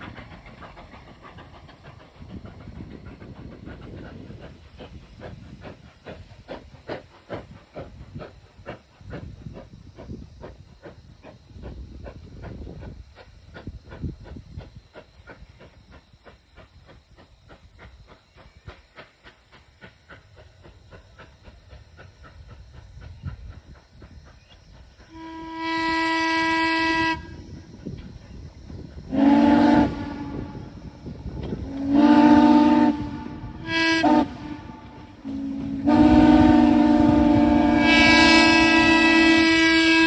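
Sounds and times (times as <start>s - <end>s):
steam locomotive exhaust chuffs: 0.0s - 40.0s.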